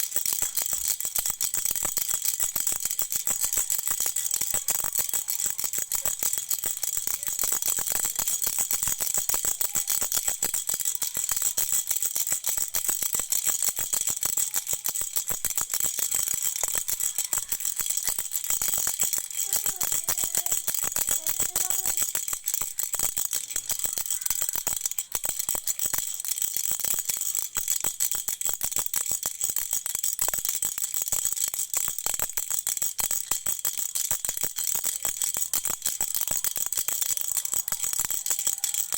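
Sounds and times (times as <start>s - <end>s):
rattle shaken: 0.0s - 38.9s.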